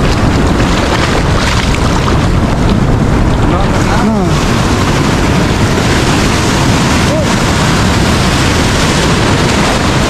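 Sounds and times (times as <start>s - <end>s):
ocean surf breaking: 0.0s - 10.0s
wind buffeting microphone: 0.0s - 10.0s.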